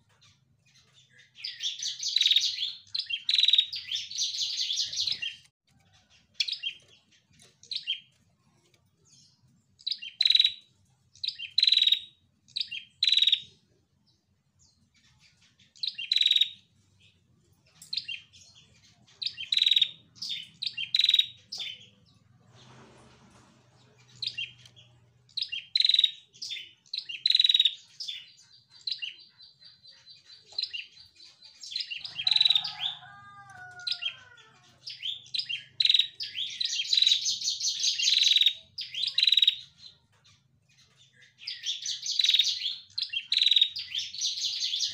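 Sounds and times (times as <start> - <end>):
bird trill: 0.0 - 8.1, 9.8 - 13.6, 15.0 - 16.7, 17.7 - 22.1, 23.9 - 44.9
bird chirping: 0.0 - 44.9.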